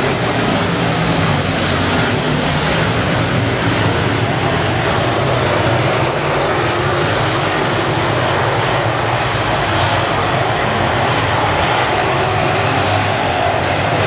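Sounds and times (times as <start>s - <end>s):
race car engines running hard: 0.0s - 14.0s.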